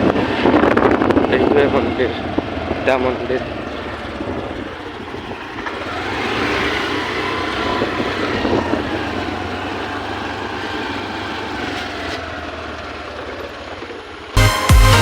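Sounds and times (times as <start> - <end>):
road vehicle passing: 0.0 - 14.4.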